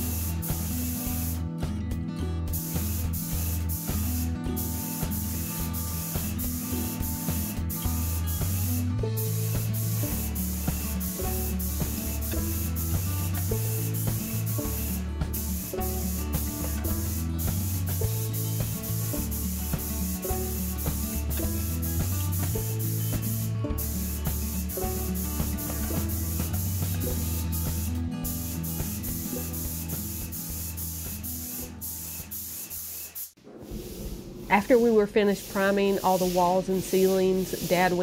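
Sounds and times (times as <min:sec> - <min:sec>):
paint sprayer hissing: 0:00.0 - 0:01.5, 0:02.5 - 0:38.0
background music with beat and bass: 0:00.0 - 0:31.9.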